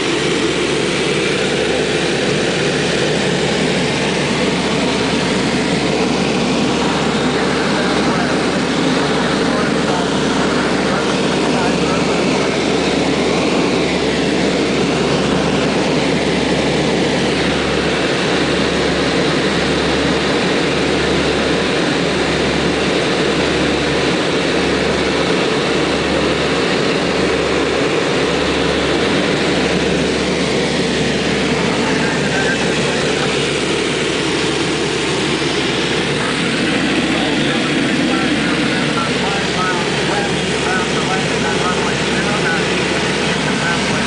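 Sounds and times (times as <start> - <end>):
aircraft cabin engine drone: 0.0 - 44.0.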